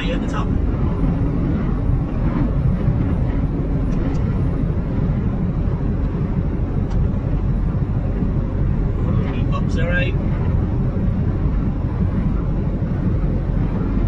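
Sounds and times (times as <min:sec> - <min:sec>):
diesel truck engine under load: 0:00.0 - 0:14.0.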